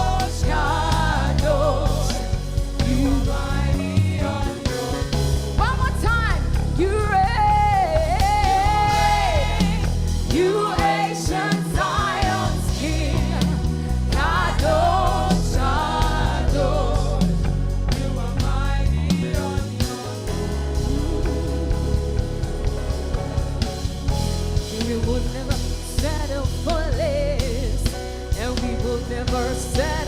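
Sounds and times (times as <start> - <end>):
gospel band music: 0.0 - 30.0.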